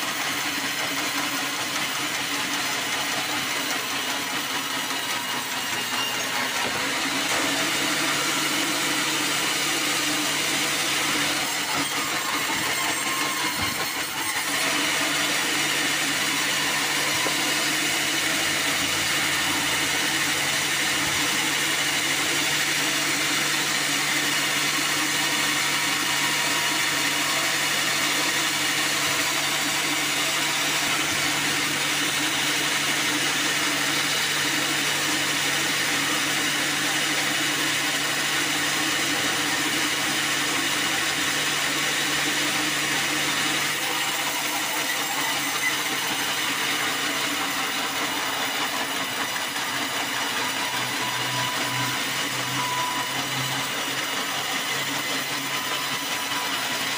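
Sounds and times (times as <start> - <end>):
band saw cutting a log: 0.0 - 56.9.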